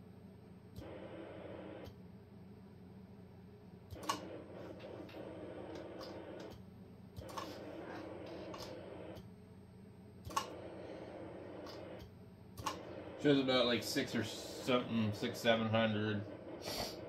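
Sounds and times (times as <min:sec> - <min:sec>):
low transmitter hum: 0:00.0 - 0:17.0.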